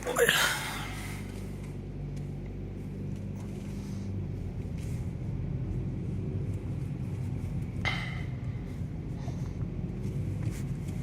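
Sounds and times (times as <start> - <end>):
engine hum: 0.0 - 11.0
road rumble: 0.0 - 11.0.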